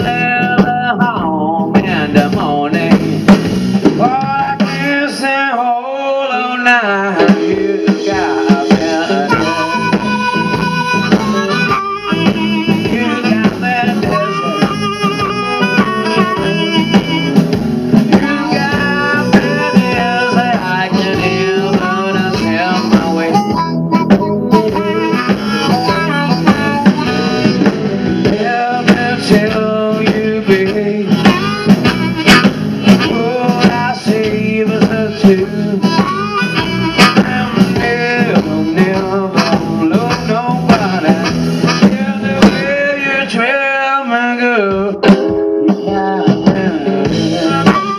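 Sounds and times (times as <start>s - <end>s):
blues band playing live: 0.0s - 47.9s
amplified harmonica: 7.2s - 43.2s, 45.0s - 47.9s.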